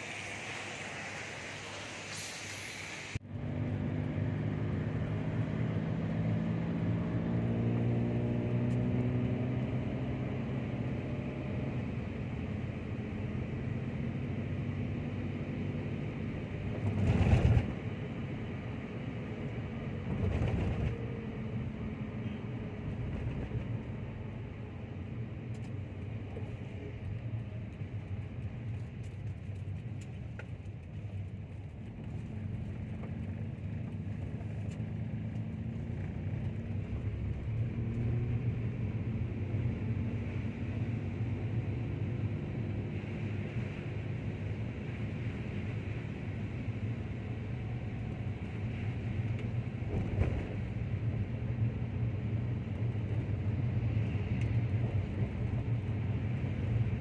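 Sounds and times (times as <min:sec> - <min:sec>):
car engine and tyres on wet road: 0:00.0 - 0:57.0.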